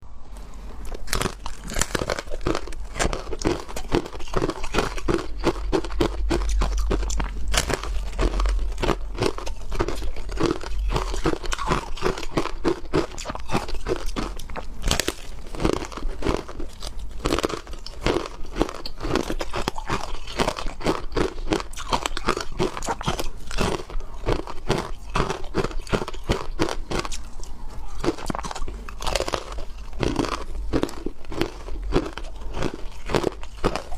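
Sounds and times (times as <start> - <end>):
ice being chewed: 0.8 - 33.9.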